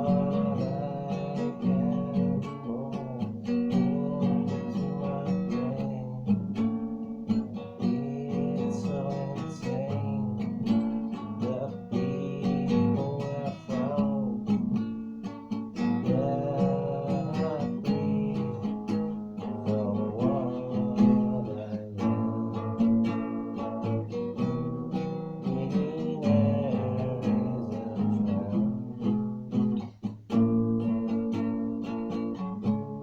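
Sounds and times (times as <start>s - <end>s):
acoustic guitar: 0.0s - 33.0s.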